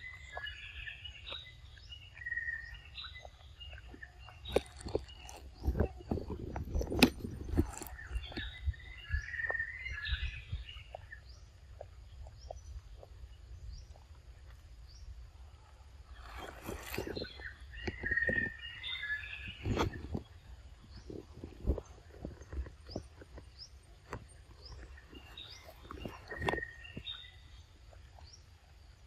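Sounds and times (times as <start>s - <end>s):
birds singing: 0.0s - 29.0s.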